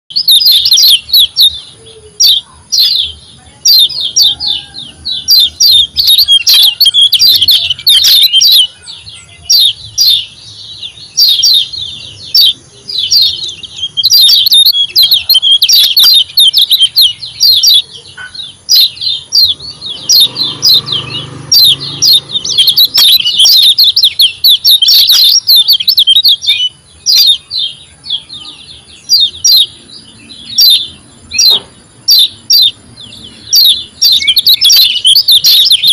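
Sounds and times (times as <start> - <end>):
songbird twittering: 0.1 - 35.9.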